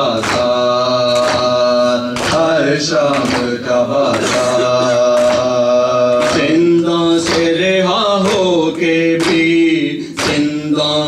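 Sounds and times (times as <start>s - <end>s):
male voices chanting a lament: 0.0s - 11.0s.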